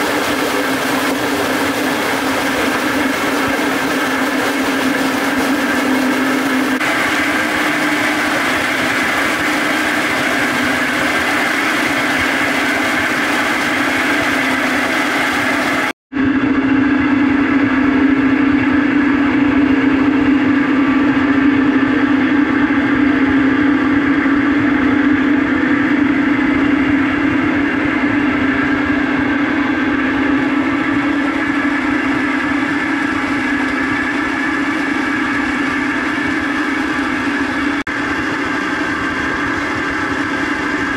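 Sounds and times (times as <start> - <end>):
water rushing: 0.0 - 16.0, 16.6 - 40.9
generator humming: 0.0 - 40.9.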